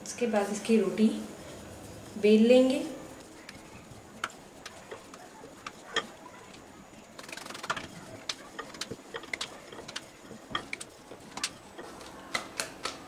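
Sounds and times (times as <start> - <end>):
soft rustle: 0.0 - 12.3.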